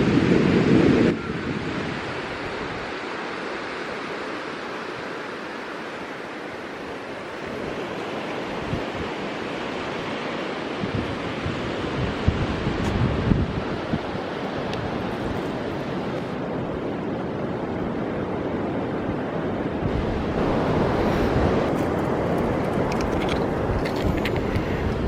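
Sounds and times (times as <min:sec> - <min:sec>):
wind buffeting microphone: 0:00.0 - 0:03.0, 0:06.6 - 0:25.0
surf washing onto beach: 0:00.0 - 0:25.0.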